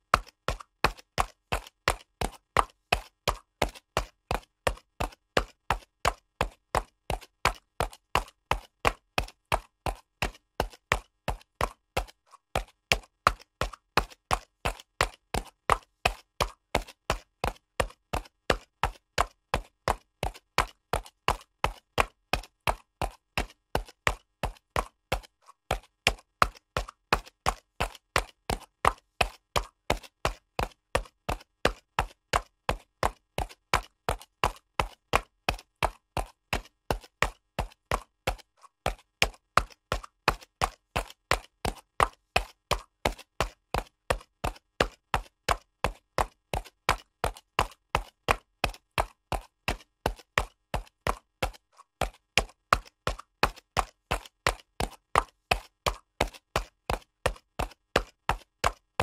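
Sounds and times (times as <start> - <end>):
horse hooves trotting on concrete: 0.0 - 59.0.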